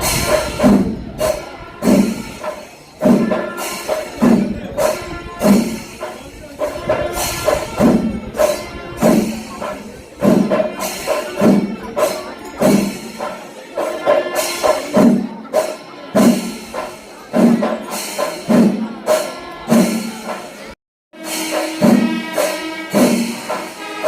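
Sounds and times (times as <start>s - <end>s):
drums and cymbals beat: 0.0s - 24.0s.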